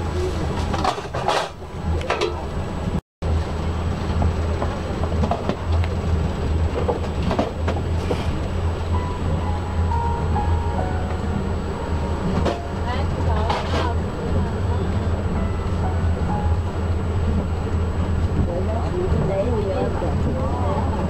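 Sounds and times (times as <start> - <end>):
train rumbling inside carriage: 0.0 - 21.0.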